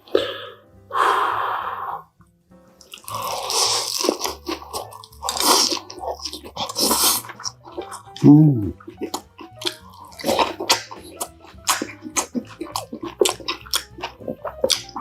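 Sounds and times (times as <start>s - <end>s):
crunching and chewing fried food: 2.8s - 15.0s.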